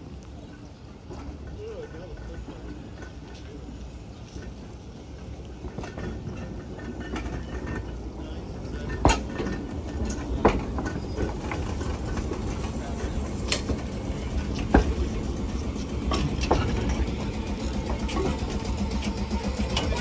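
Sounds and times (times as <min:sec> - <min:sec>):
train rumbling along rails: 0:00.0 - 0:20.0.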